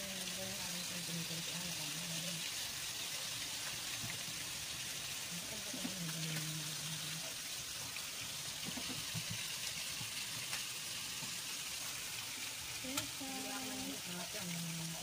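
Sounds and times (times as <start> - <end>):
sausages sizzling in oil: 0.0 - 15.0.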